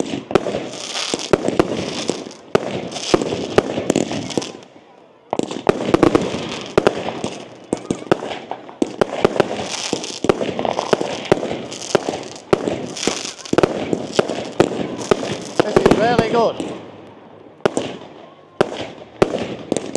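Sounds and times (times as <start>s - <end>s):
fireworks banging: 0.0s - 19.9s
fireworks crackling: 0.0s - 19.9s.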